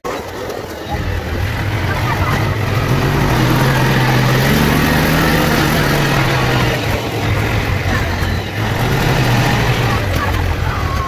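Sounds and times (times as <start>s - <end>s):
utility vehicle engine running: 0.1s - 11.0s.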